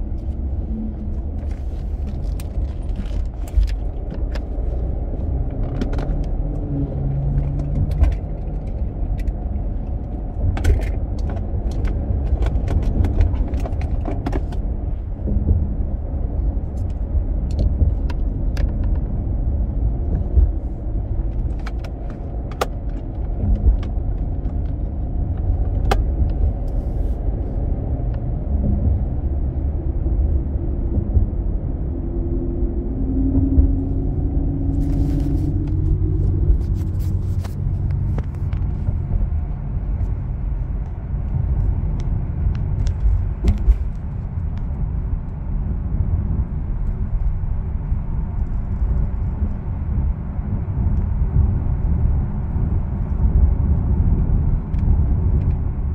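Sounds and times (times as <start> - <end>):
car cabin road rumble: 0.0 - 55.9.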